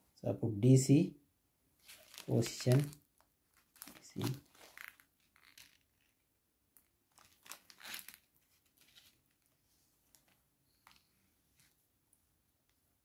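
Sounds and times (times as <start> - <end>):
soft plastic rustles: 1.8 - 13.0.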